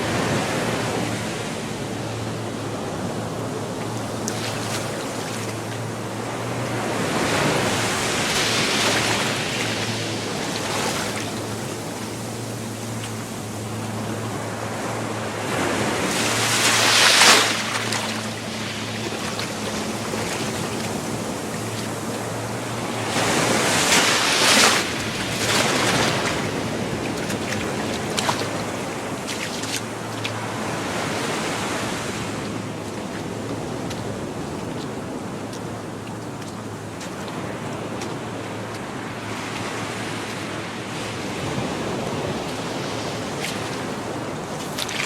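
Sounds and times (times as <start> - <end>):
small waves washing up beach: 0.0 - 45.0.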